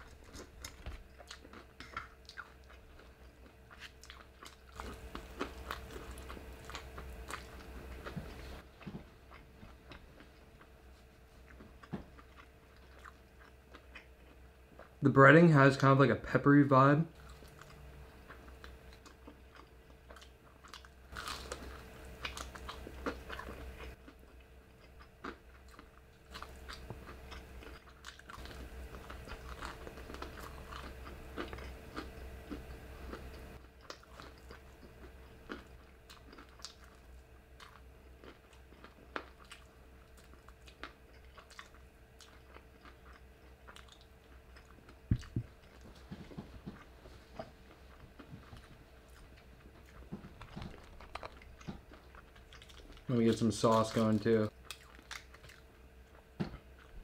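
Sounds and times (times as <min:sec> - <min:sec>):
chewing crunchy fried food: 0:00.0 - 0:15.0, 0:17.1 - 0:57.0.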